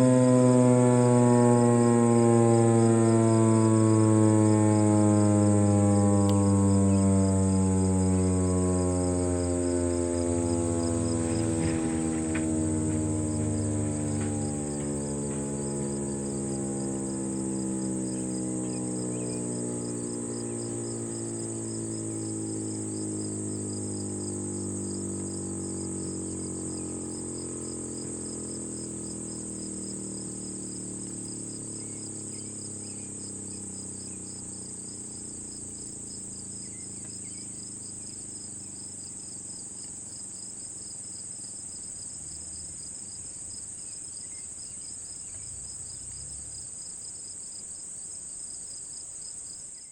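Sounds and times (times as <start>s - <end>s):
warning siren winding down: 0.0s - 40.0s
insects droning: 0.0s - 49.9s.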